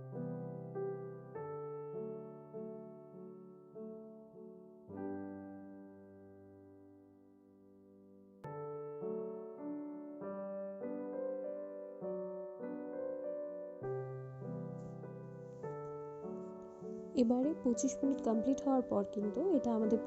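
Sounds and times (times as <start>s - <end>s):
gentle piano chords: 0.0s - 20.0s.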